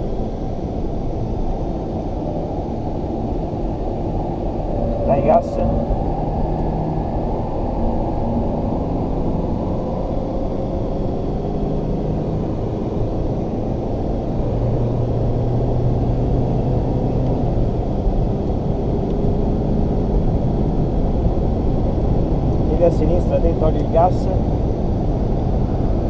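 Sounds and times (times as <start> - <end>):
car engine accelerating: 0.0 - 26.0
road noise: 0.0 - 26.0.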